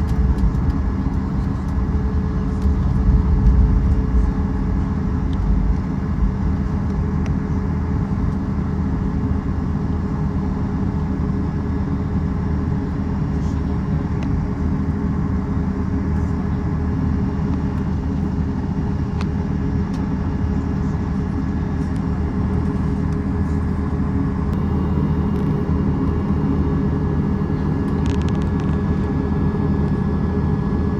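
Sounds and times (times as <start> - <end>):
vehicle engine rumble: 0.0 - 30.9.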